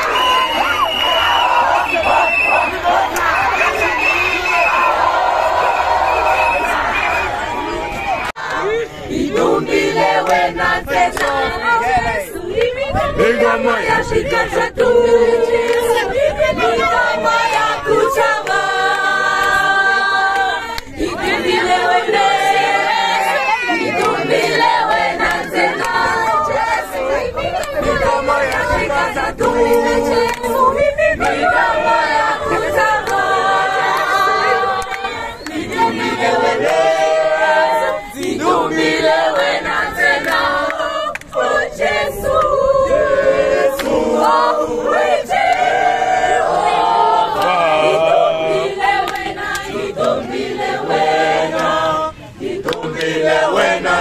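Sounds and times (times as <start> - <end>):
choir singing held chords: 0.0 - 54.0.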